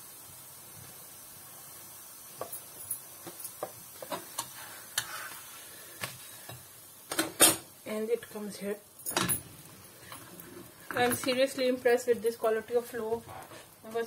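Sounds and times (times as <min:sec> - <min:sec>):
flatbread sizzling on a hot pan: 0:00.0 - 0:14.0.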